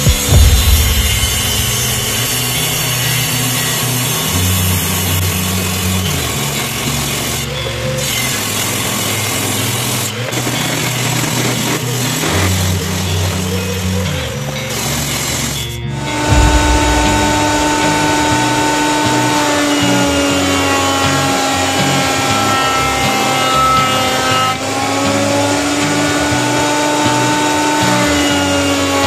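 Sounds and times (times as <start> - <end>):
background music with bass: 0.0 - 29.0
table saw ripping boards: 1.7 - 16.3, 17.2 - 29.0.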